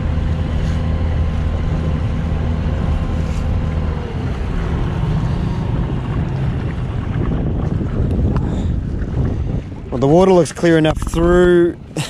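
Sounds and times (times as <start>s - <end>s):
outboard motor running: 0.0s - 12.0s
wind on microphone: 0.0s - 12.0s.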